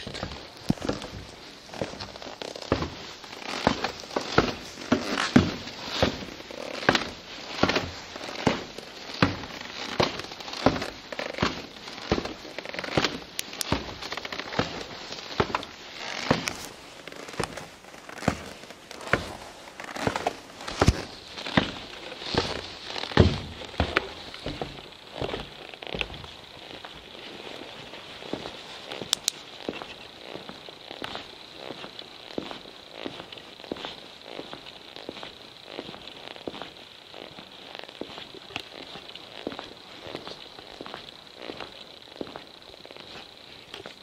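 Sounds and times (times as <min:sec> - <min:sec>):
footsteps walking: 0:00.0 - 0:44.0.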